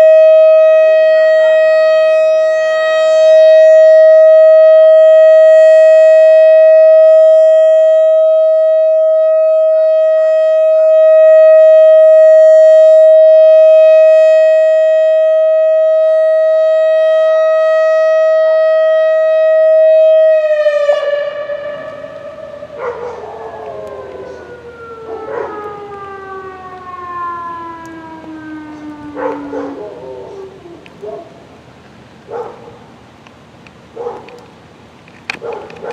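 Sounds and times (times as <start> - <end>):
warning siren winding down: 0.0 - 31.0.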